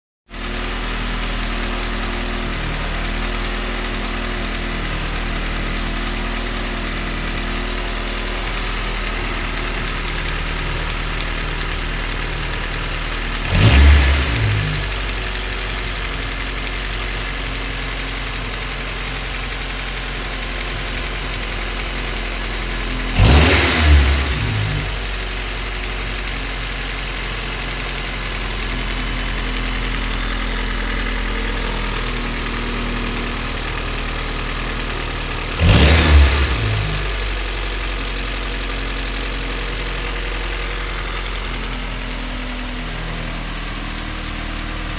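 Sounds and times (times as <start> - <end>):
car engine idling with ticking: 0.3 - 44.9.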